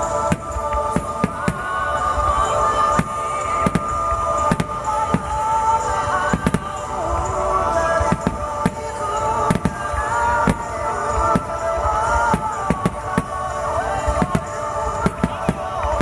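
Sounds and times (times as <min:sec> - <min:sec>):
fireworks bangs: 0:00.0 - 0:16.0
music with sustained melodic tones: 0:00.0 - 0:16.0.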